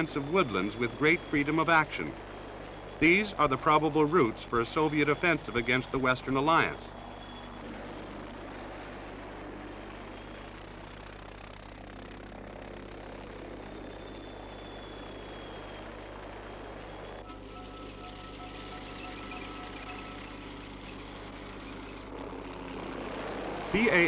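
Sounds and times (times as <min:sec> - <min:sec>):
helicopter rotor and turbine noise: 0:00.0 - 0:24.0.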